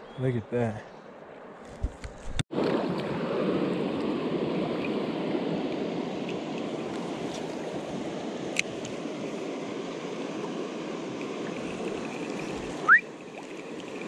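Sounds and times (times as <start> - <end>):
creek water over rocks: 1.2 - 14.0.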